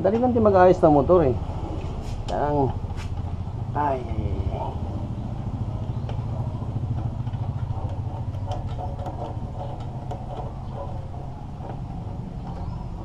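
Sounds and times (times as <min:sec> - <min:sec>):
small engine idling: 0:02.4 - 0:13.0.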